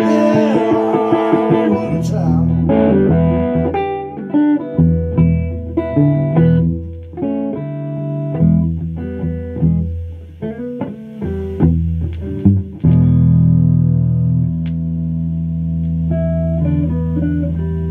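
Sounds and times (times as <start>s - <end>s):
electric guitar solo: 0.0s - 15.3s, 16.0s - 17.9s.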